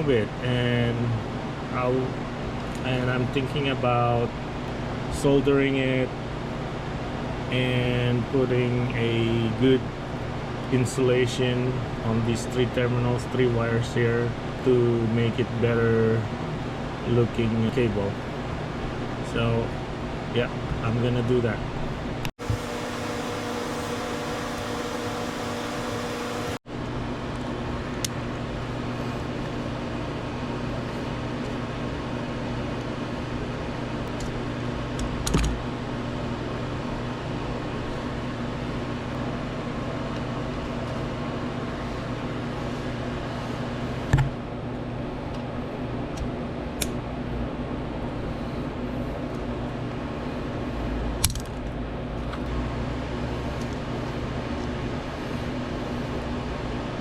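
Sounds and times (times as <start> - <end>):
fan humming: 0.0 - 57.0.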